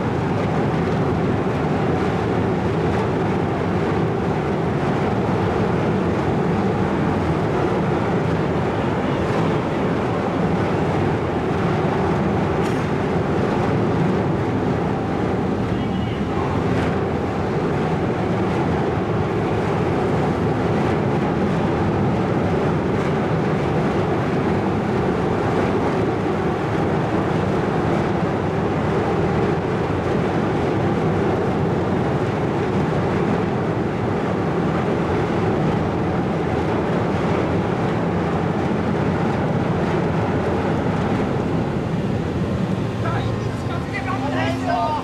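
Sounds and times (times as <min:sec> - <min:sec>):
ferry machinery rumble and hum: 0:00.0 - 0:45.0.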